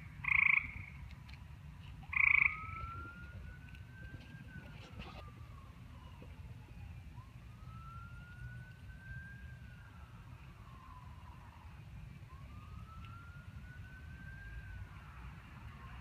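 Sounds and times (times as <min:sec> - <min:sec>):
faint emergency siren wailing: 0:00.0 - 0:16.0
low steady background rumble: 0:00.0 - 0:16.0.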